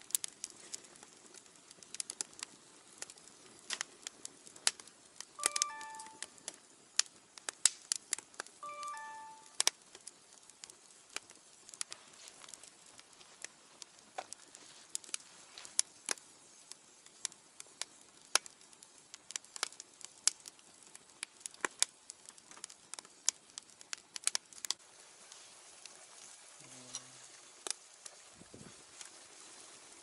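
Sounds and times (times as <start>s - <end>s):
faint hiss: 0.0s - 30.0s
wood fire crackling and popping: 0.0s - 30.0s.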